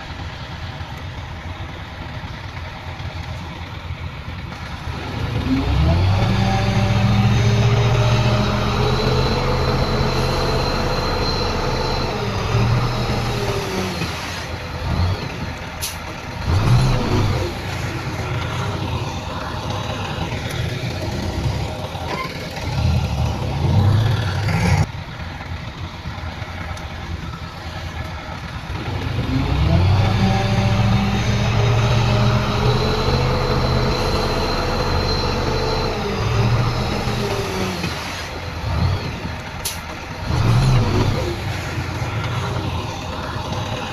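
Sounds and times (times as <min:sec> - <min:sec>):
heavy diesel engine revving: 0:04.5 - 0:24.9, 0:27.5 - 0:43.9.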